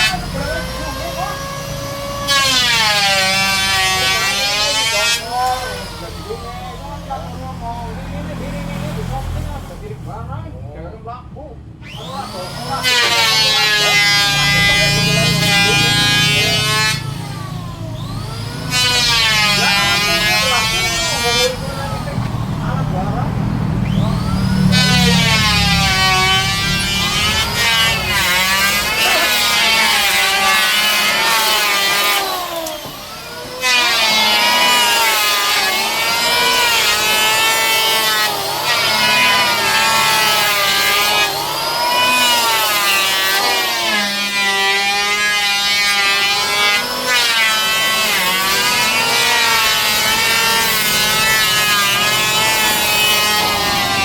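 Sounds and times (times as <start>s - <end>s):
power tool cutting wood: 0.0s - 9.8s, 11.8s - 54.0s.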